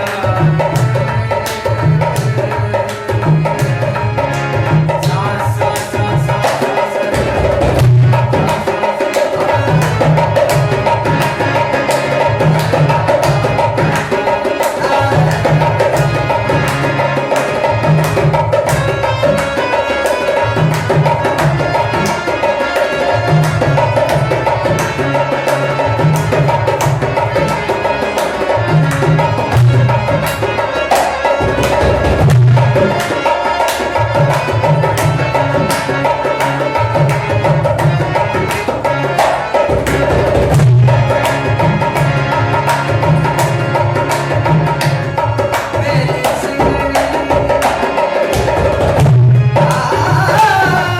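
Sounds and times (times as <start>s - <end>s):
hand drum rhythm: 0.0s - 50.9s
sustained melody line: 0.0s - 50.9s.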